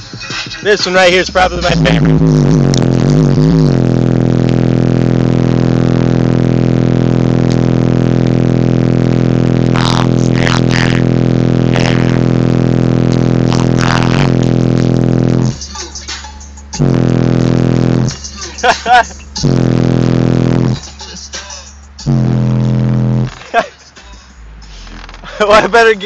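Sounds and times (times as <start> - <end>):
distorted subwoofer bass note: 0.6 - 15.7, 16.4 - 23.6.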